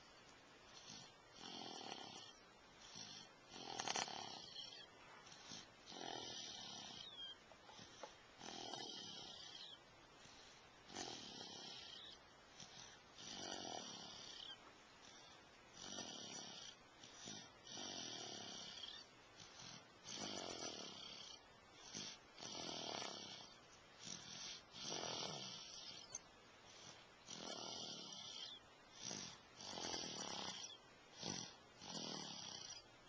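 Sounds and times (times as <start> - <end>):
person snoring: 0.7 - 26.2, 26.8 - 32.8.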